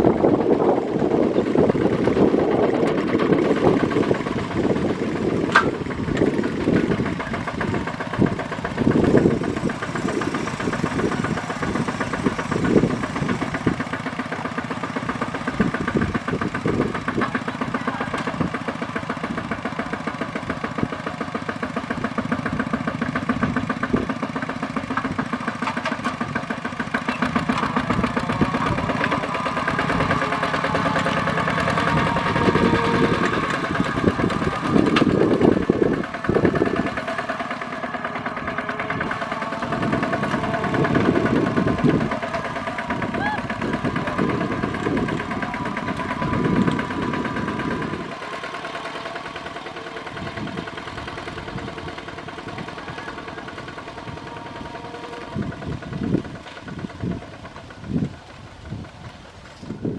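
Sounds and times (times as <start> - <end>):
tractor diesel engine chugging: 0.0 - 59.9.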